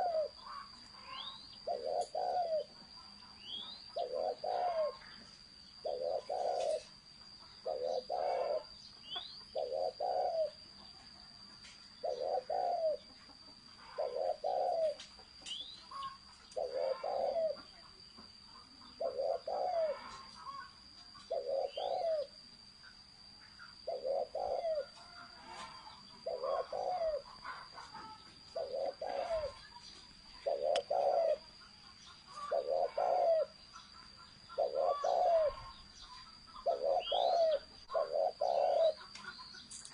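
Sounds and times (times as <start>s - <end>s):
dove cooing: 0.0s - 2.9s, 3.5s - 5.2s, 5.8s - 7.0s, 7.6s - 10.6s, 12.0s - 13.2s, 13.8s - 15.1s, 15.9s - 17.8s, 18.8s - 22.4s, 23.6s - 39.7s
small birds chirping: 0.0s - 11.0s, 11.6s - 39.9s
steady high-pitched whine: 0.0s - 39.9s.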